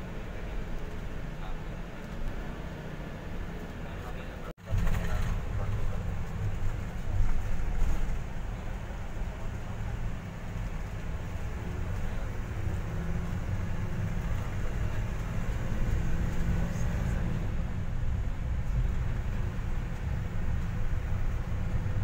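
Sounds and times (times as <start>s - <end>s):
bus engine rumble: 0.0s - 22.0s
road noise: 0.0s - 22.0s.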